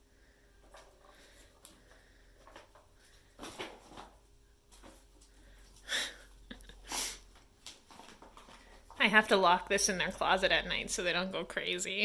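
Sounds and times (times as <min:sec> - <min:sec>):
low room hum: 0:00.0 - 0:12.0
kittens rustling and scuffling: 0:00.3 - 0:10.3.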